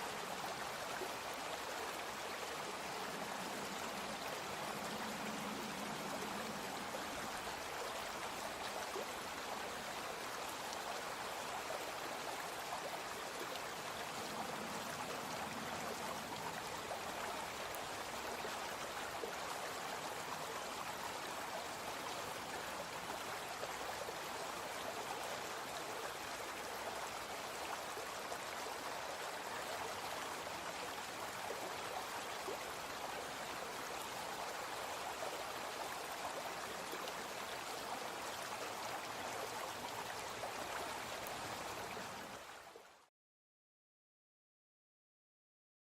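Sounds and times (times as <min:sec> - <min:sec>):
brook flowing: 0:00.0 - 0:43.1.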